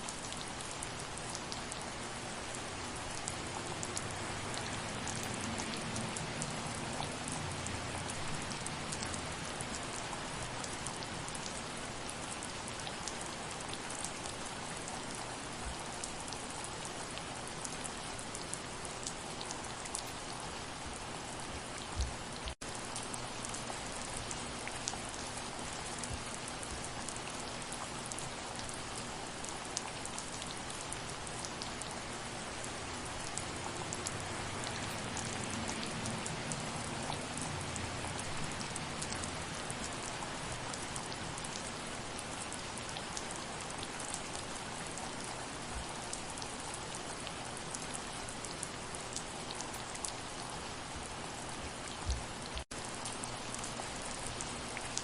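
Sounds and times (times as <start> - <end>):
soft rain: 0.0 - 55.0.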